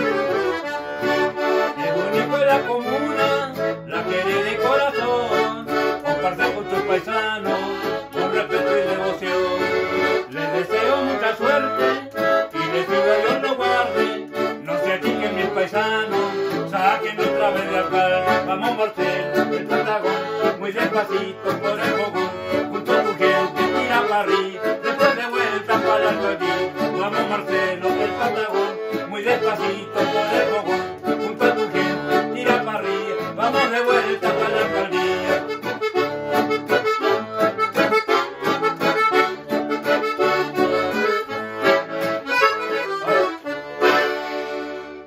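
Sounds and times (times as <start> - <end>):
piano accordion: 0.0 - 45.0
strummed acoustic guitar: 0.0 - 45.0.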